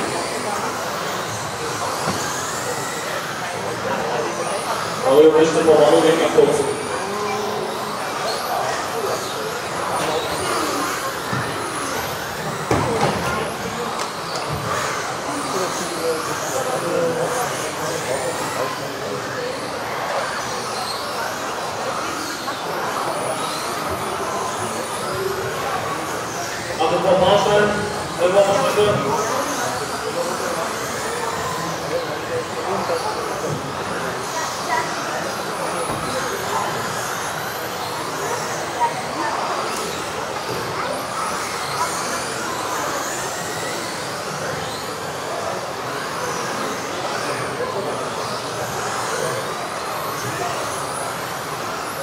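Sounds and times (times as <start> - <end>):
rc car motors whining: 0.0 - 52.0.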